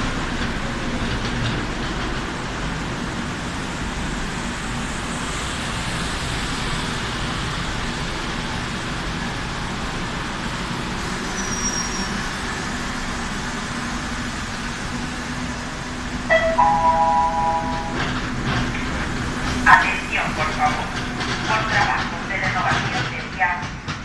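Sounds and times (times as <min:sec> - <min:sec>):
metro train rumble and hiss: 0:00.0 - 0:24.0.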